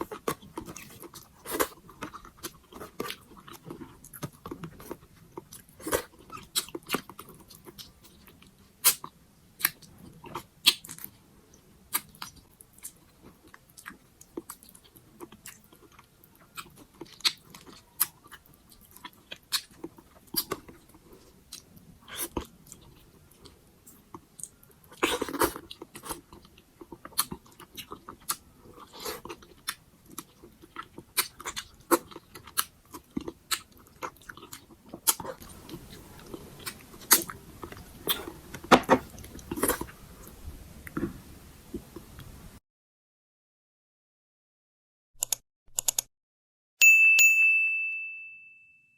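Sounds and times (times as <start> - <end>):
person chewing food: 0.0 - 42.2.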